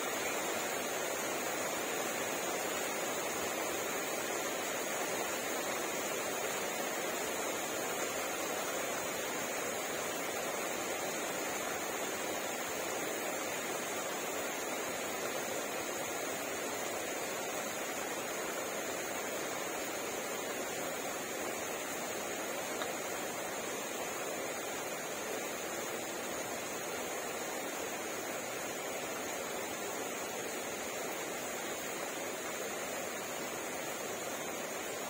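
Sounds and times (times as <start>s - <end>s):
rain falling on plants: 0.0s - 35.0s.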